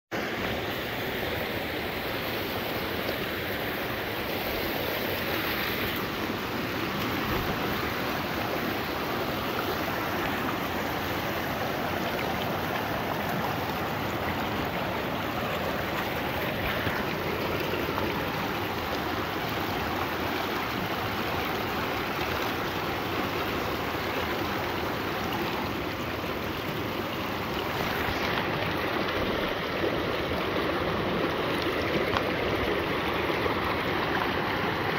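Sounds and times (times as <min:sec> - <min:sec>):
creek rushing over rocks: 0:00.1 - 0:34.9.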